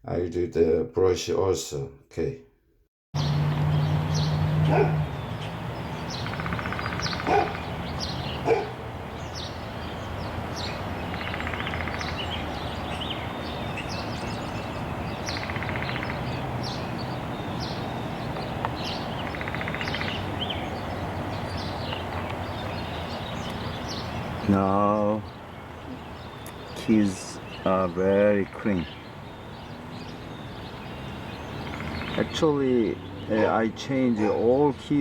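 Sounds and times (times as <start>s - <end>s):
birds chirping: 3.2s - 35.0s.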